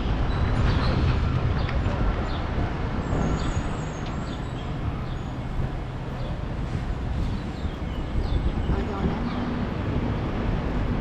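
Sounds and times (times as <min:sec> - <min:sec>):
rumble of passing traffic: 0:00.0 - 0:11.0.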